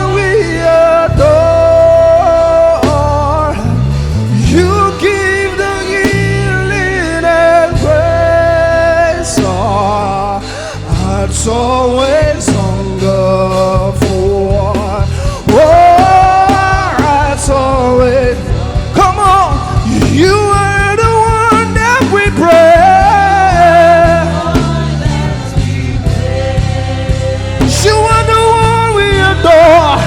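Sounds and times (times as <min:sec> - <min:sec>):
band playing: 0:00.0 - 0:30.0
person singing: 0:00.0 - 0:30.0.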